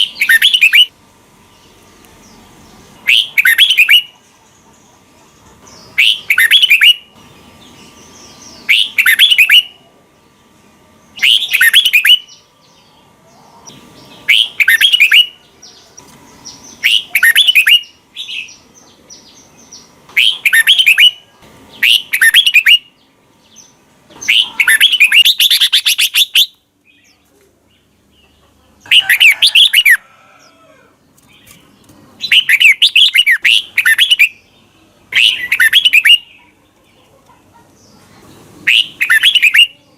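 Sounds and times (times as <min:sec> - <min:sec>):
bird singing warbled phrases: 0:00.0 - 0:30.5, 0:31.1 - 0:39.9.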